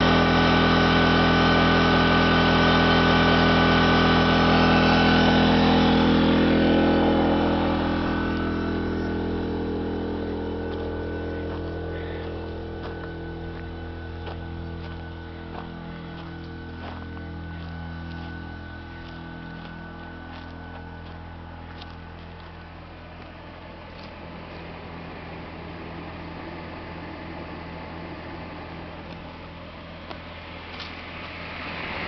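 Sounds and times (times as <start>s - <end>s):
portable generator running: 0.0s - 32.0s.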